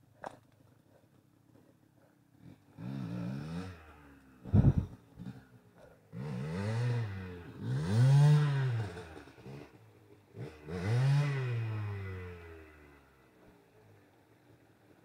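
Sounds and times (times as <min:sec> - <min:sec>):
motorcycle engine revving: 0:02.3 - 0:14.6.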